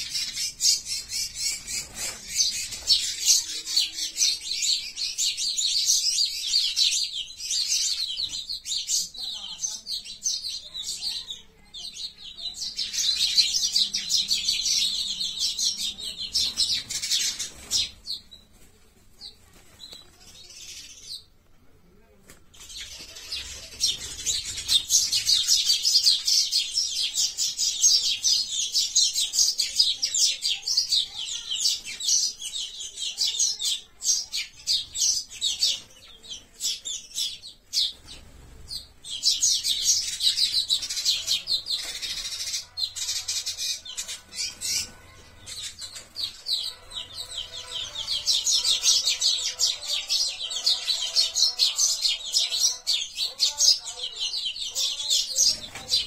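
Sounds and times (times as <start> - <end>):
sparrows chirping: 0.0 - 21.3, 22.0 - 56.0.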